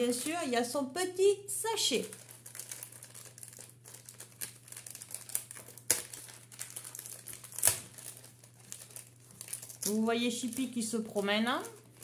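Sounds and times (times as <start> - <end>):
gift bag crinkling: 1.9 - 12.0.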